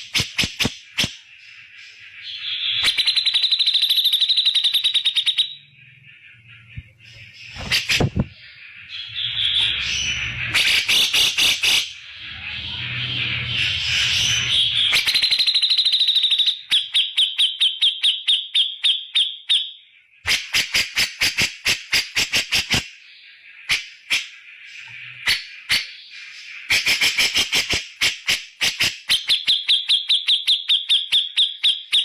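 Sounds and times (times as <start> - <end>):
scratchy bird chatter and trill: 0.0 - 32.0.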